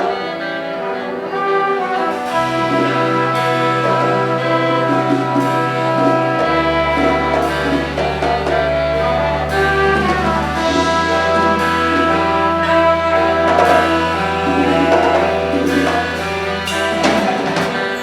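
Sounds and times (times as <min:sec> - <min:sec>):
brass band fanfare: 0:00.0 - 0:18.0.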